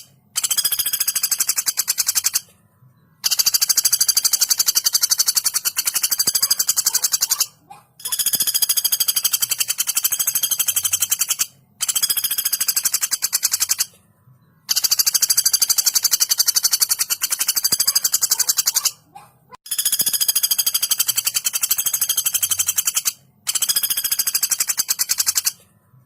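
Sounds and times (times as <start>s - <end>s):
woodpecker rattling trills: 0.0s - 2.5s, 3.2s - 14.0s, 14.6s - 25.6s.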